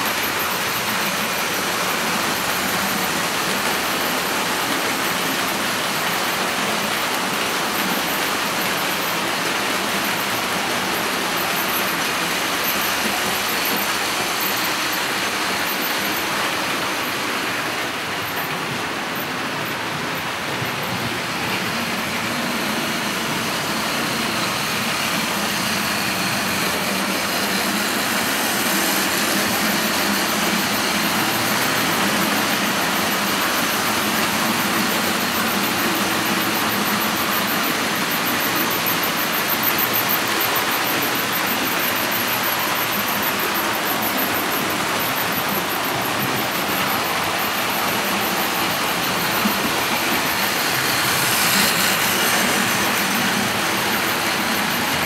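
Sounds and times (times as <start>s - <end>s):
model train whirring on track: 0.0s - 55.0s.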